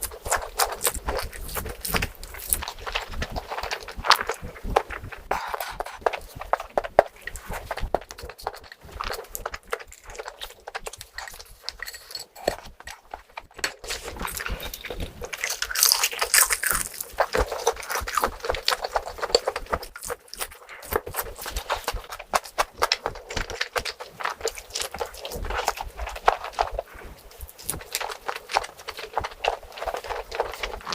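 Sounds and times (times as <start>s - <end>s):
wet chewing: 0.0s - 30.9s.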